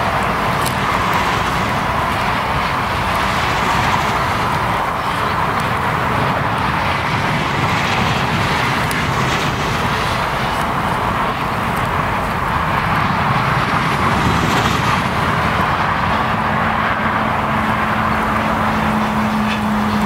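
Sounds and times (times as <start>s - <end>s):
roar of fast traffic: 0.0s - 20.0s.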